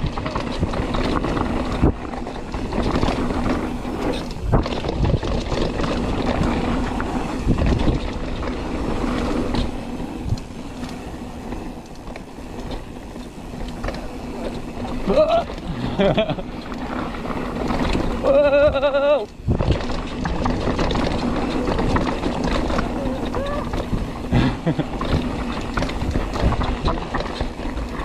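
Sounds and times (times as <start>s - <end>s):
bike tyres rattling over ground: 0.0s - 28.0s.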